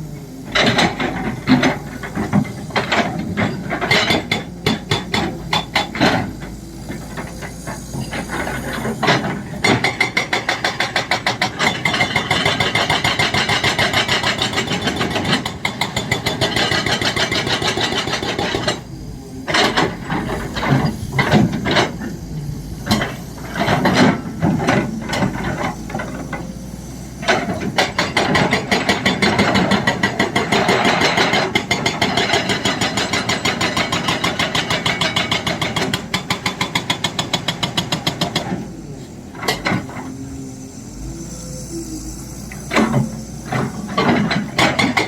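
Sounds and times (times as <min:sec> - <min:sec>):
diesel engine running: 0:00.0 - 0:45.0
hydraulic breaker hammering: 0:00.4 - 0:26.5, 0:27.2 - 0:38.7, 0:42.5 - 0:45.0.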